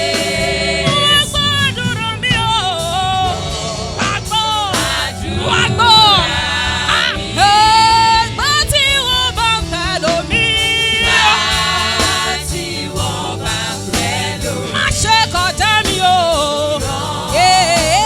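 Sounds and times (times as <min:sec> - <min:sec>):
instrumental backing: 0:00.0 - 0:18.0
voices singing with vibrato: 0:00.0 - 0:18.0.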